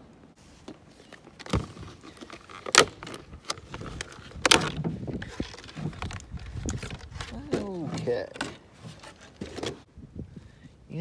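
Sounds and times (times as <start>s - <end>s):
light rustling: 0.4s - 9.9s.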